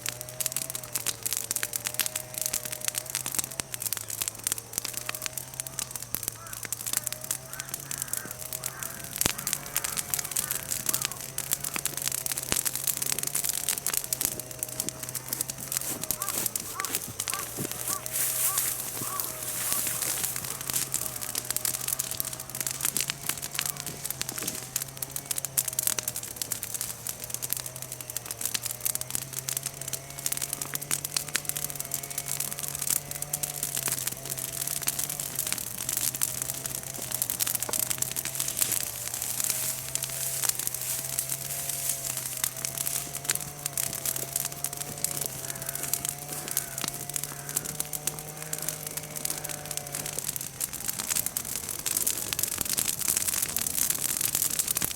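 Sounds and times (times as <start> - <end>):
bonfire crackling: 0.0 - 54.9.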